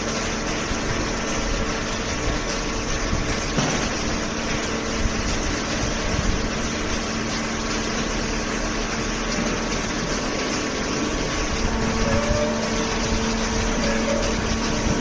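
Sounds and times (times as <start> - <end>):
baler mechanical drone: 0.0 - 15.0.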